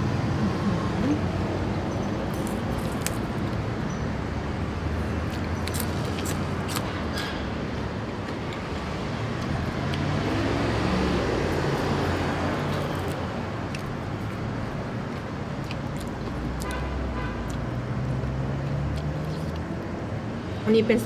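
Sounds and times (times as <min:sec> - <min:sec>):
low engine hum of traffic: 0:00.0 - 0:21.0
vehicle passing: 0:00.0 - 0:21.0.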